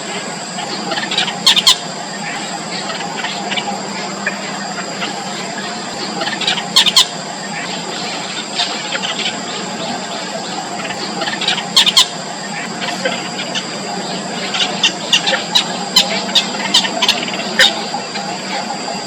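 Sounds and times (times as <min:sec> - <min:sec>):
nestlings cheeping: 0:00.0 - 0:19.0.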